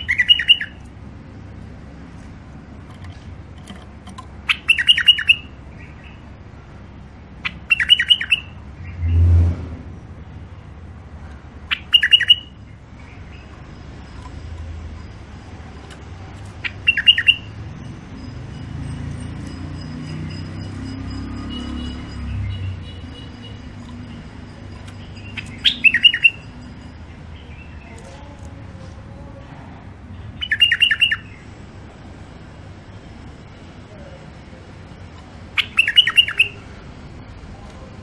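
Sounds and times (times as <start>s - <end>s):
bulbul singing: 0.0s - 9.3s, 11.6s - 29.3s, 30.0s - 38.0s.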